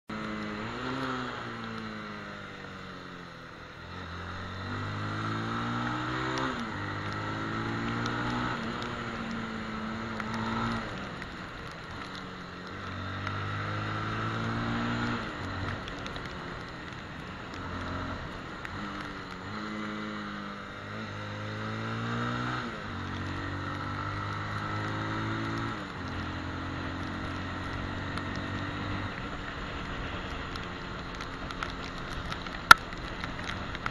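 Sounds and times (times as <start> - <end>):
motorcycle engine revving: 0.1 - 33.9
wind and tyres on wet road: 0.1 - 33.9.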